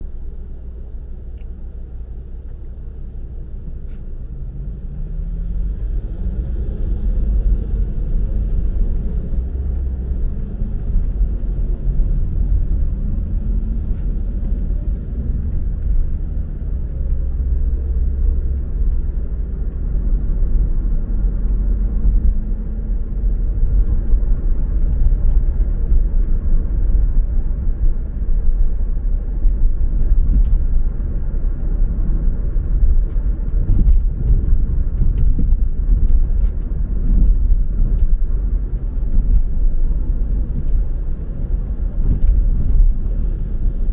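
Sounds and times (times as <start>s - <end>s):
car driving on road: 0.0s - 43.9s.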